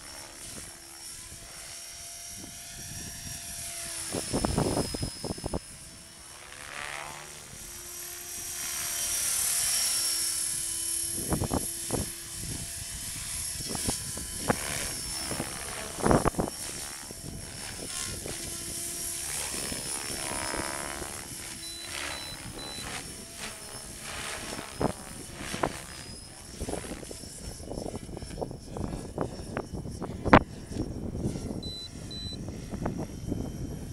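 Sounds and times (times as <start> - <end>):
rc helicopter rotor whirring: 0.0 - 33.9.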